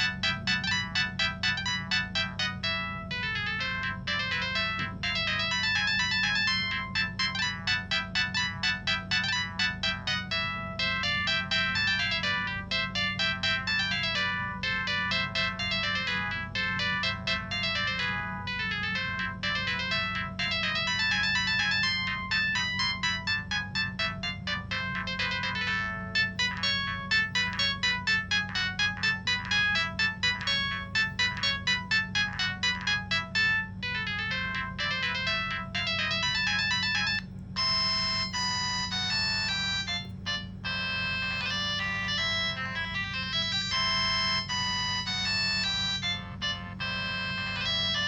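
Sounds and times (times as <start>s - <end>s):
mobile phone ringtone: 0.0s - 48.0s
steady low hum: 0.0s - 48.0s.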